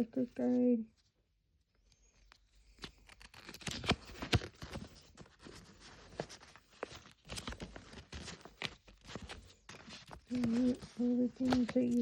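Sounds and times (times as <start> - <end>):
paper leaflet rustling: 2.0 - 12.0.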